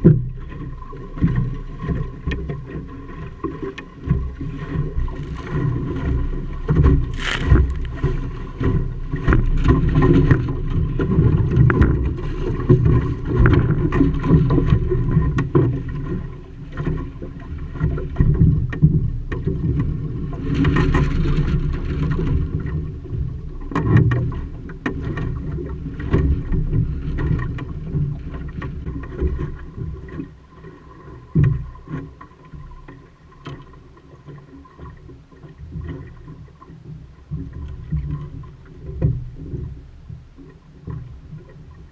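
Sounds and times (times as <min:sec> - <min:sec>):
water splashing against hull: 0:00.0 - 0:41.9
wind rumble on microphone: 0:00.0 - 0:41.9.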